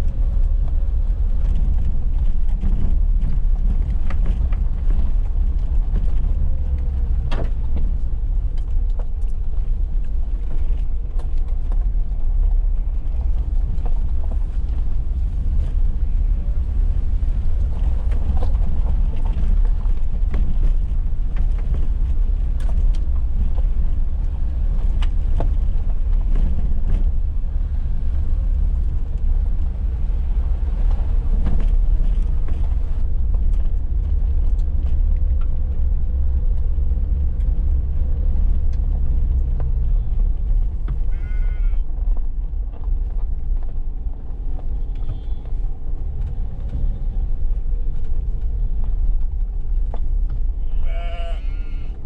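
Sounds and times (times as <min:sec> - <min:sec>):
car engine and road rumble: 0:00.0 - 0:52.0.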